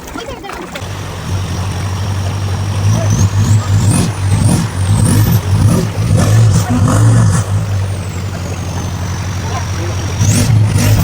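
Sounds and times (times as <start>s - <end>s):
car engine revving: 0.1s - 11.0s
high engine whine: 0.7s - 11.0s.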